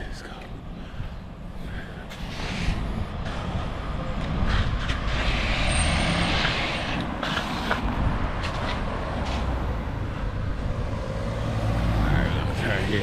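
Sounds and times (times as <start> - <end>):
low traffic rumble: 0.0 - 13.0
heavy vehicle passing: 2.2 - 13.0.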